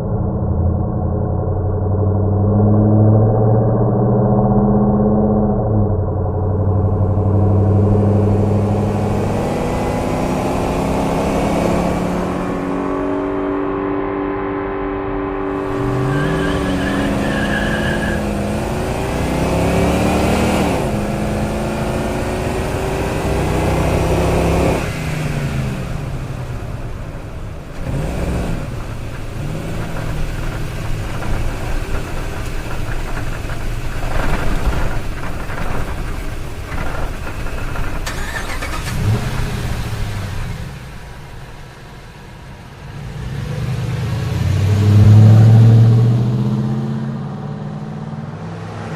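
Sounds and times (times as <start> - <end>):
truck engine accelerating: 0.0 - 48.9.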